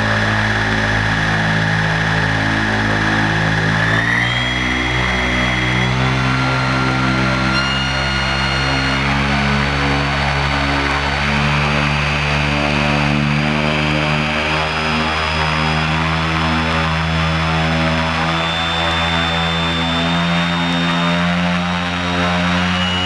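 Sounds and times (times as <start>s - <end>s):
high electric motor whine: 0.0s - 23.0s
propeller hum: 0.0s - 23.0s.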